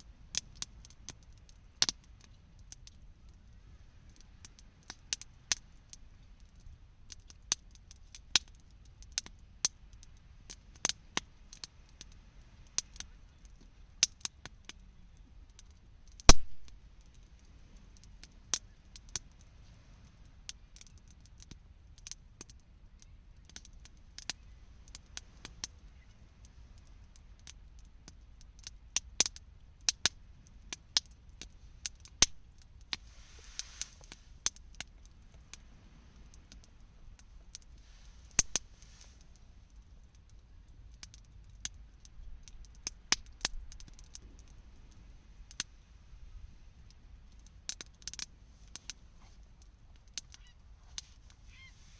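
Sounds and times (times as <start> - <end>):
campfire crackling and popping: 0.0 - 51.9
low steady rumble: 0.0 - 51.9.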